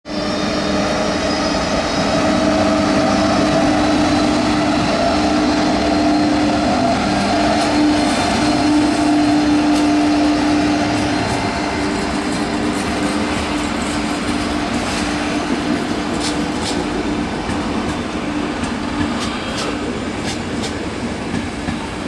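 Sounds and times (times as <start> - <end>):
electric locomotive hum: 0.1 - 22.0
wheels rumbling on track: 0.7 - 22.0.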